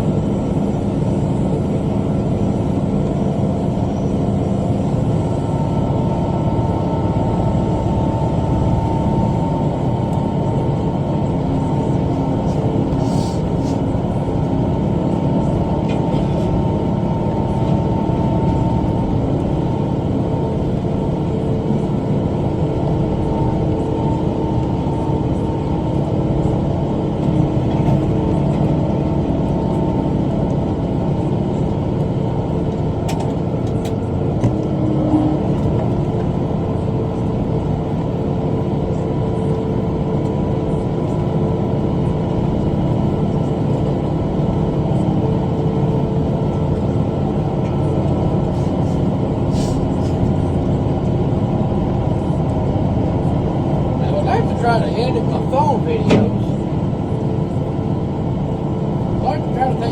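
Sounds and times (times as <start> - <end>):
mower drive whine: 0.0 - 59.9
tractor diesel engine under load: 0.0 - 59.9.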